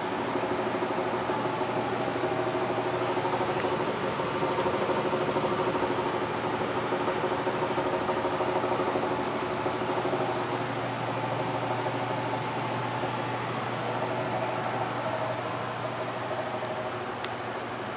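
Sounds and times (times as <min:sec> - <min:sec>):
furnace humming: 0:00.0 - 0:17.9
furnace rattle: 0:00.4 - 0:17.0.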